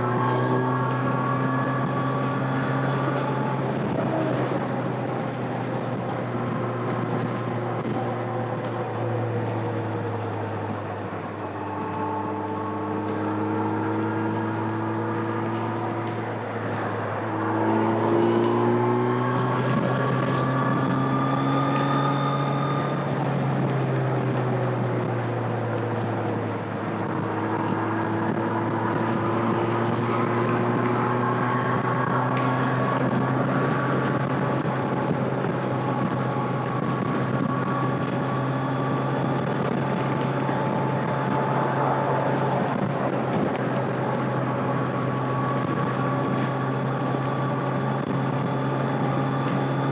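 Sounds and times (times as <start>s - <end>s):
motorcycle engine at speed: 0.0s - 49.9s.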